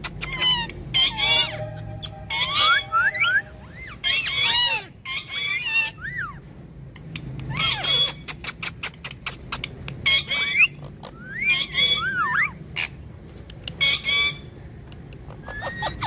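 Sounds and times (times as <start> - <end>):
parrot squawking and chattering: 0.0 - 16.0.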